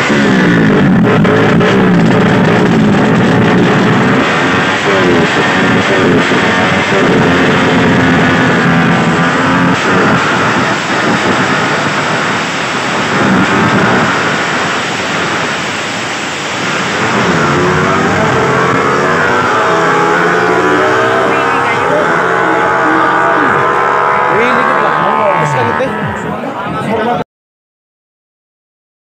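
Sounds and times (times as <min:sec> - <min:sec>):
motorcycle engine revving: 0:00.0 - 0:26.4.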